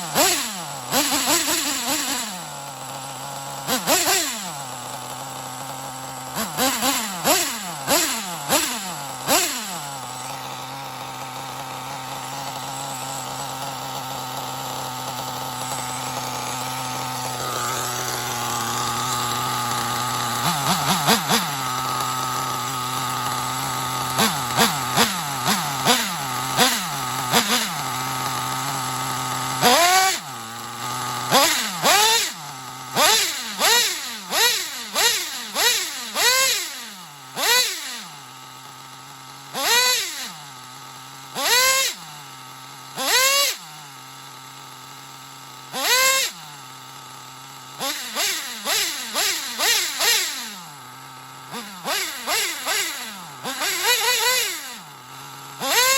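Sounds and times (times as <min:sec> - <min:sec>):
sharp throttle blips: 0:00.0 - 0:38.9, 0:39.5 - 0:44.1, 0:45.6 - 0:55.9
model engine buzzing: 0:00.0 - 0:55.9.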